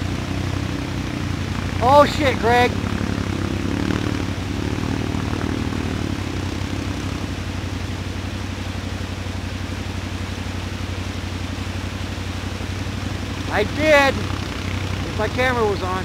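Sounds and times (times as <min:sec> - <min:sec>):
atv engine idling: 0:00.0 - 0:16.0
fast-running creek rushing: 0:00.0 - 0:16.0.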